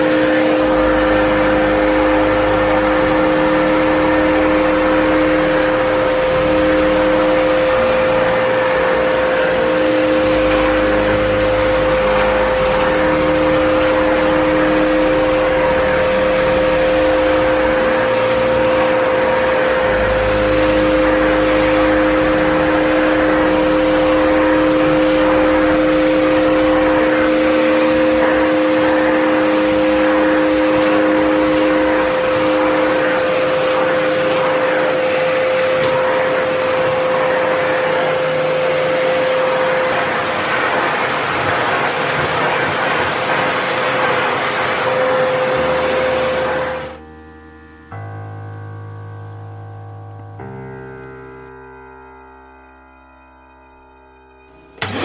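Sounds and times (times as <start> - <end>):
vacuum cleaner running: 0.0 - 48.3, 54.5 - 55.0.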